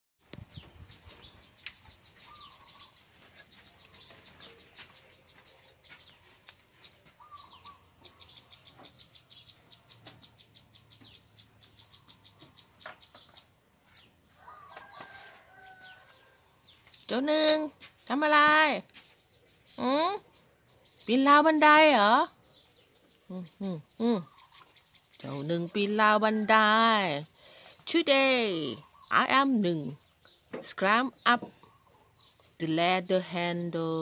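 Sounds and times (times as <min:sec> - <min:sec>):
small birds chirping: 0:00.2 - 0:34.0.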